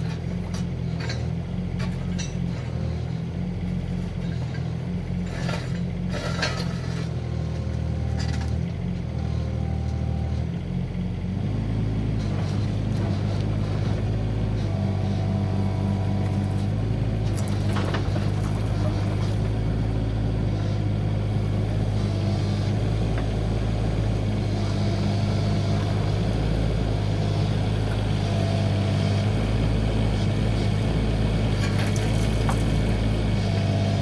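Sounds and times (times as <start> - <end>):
mini excavator engine running: 0.0 - 34.0.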